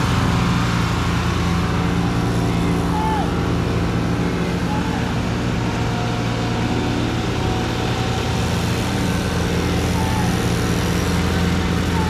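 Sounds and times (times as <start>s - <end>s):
riding lawn mower engines running: 0.0s - 12.0s.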